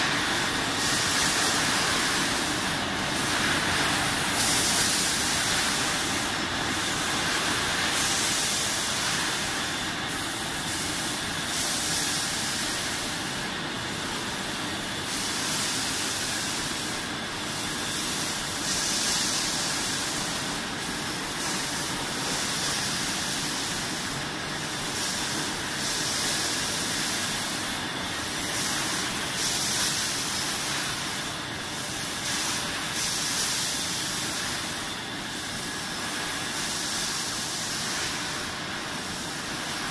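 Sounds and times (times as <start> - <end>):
machine hissing air: 0.0 - 39.9.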